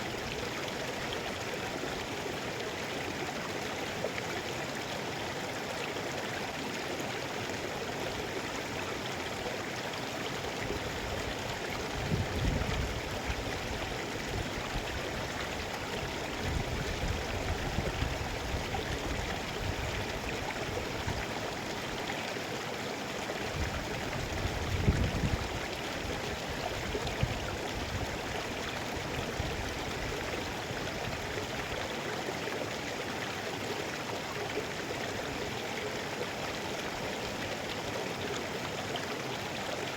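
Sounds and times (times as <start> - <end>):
low rumbling water surges: 0.0 - 39.9
river water rushing: 0.0 - 39.9.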